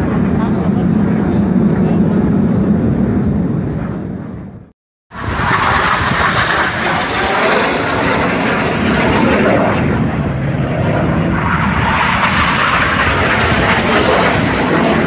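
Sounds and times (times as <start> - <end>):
jet engines flying past: 0.0 - 15.0.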